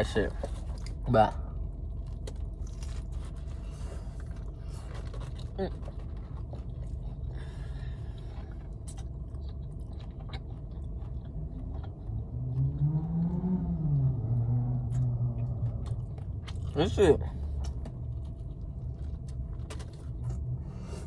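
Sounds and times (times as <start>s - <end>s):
low hum rising and falling: 0.0s - 21.0s
low rumble: 0.0s - 21.0s
man chewing food: 0.3s - 21.0s.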